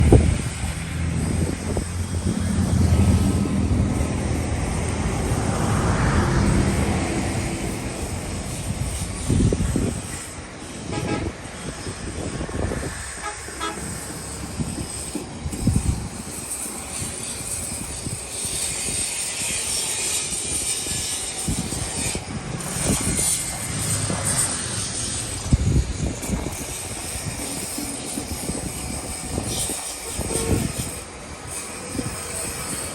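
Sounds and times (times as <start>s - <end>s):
rushing wind: 0.0s - 32.9s.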